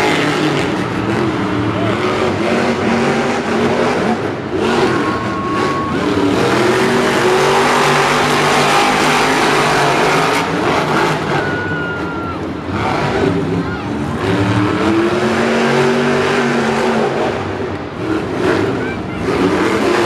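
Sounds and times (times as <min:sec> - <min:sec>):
monster truck engines revving: 0:00.0 - 0:20.0.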